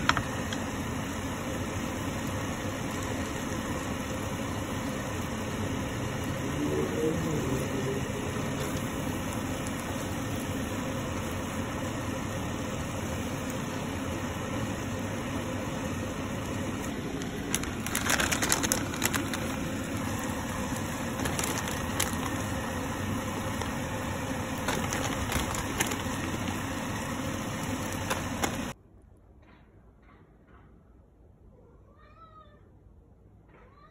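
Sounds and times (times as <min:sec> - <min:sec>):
pasta sauce cooking on hob: 0:00.0 - 0:28.8.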